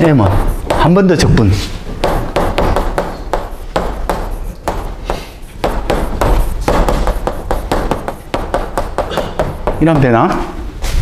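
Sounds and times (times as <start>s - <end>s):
chalk tapping on a blackboard: 0.0s - 10.5s.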